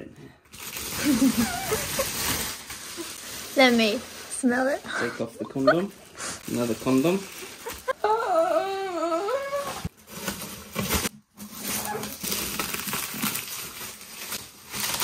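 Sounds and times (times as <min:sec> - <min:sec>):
plastic film crinkling: 0:00.5 - 0:08.2, 0:09.2 - 0:15.0.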